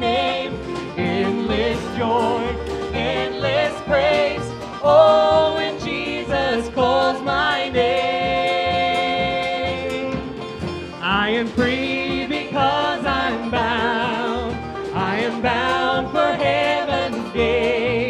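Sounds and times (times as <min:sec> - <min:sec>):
country-gospel band playing: 0:00.0 - 0:18.0
person singing: 0:00.0 - 0:18.0.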